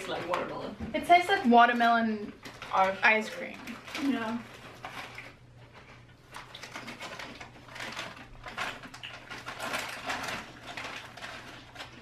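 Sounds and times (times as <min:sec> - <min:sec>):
plastic snack bag crinkling: 0:01.4 - 0:12.0.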